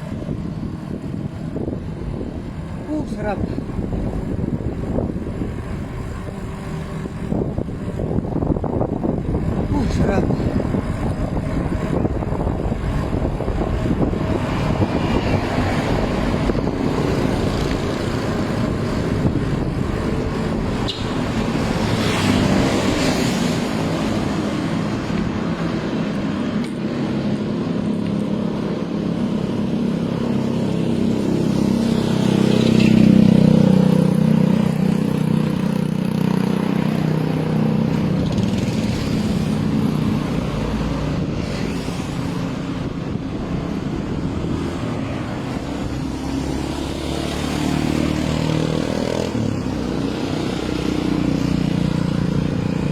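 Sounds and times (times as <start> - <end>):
loud engine vehicle passing: 0.0 - 52.9
road traffic passing: 0.0 - 52.9
wind on microphone: 0.0 - 52.9.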